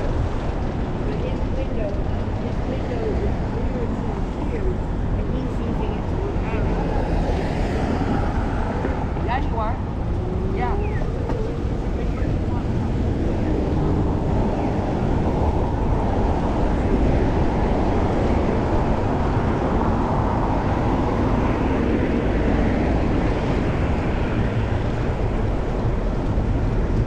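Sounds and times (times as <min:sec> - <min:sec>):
street traffic: 0:00.0 - 0:27.0
wind buffeting camera: 0:00.0 - 0:27.0.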